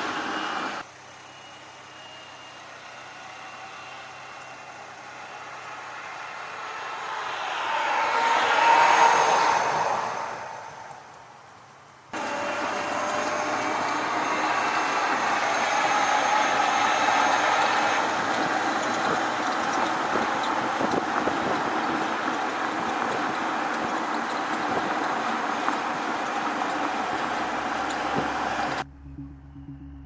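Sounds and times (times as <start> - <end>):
faint steady tones: 0.0 - 28.8
truck road noise: 0.0 - 30.0.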